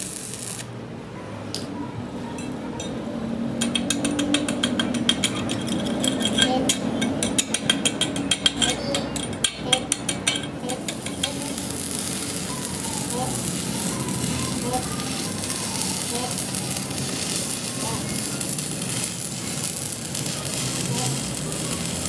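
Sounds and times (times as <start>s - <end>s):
rapid metallic clicking: 3.6s - 22.0s.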